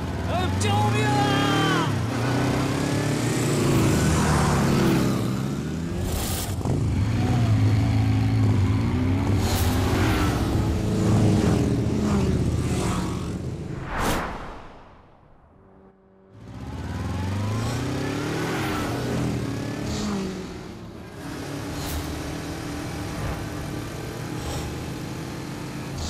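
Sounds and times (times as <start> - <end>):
motorcycle engines revving: 0.0 - 13.8, 16.2 - 26.0
motorcycles whooshing past: 1.2 - 26.0.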